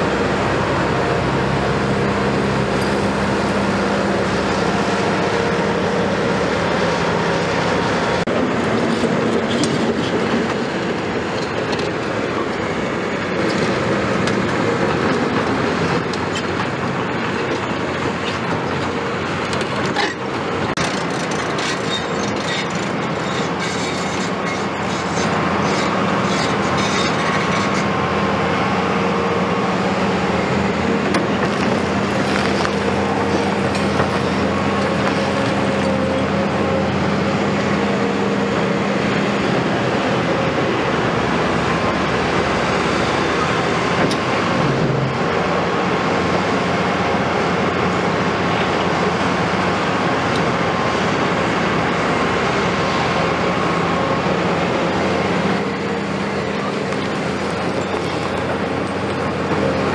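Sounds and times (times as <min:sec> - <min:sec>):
excavator diesel engines running: 0:00.0 - 0:59.9.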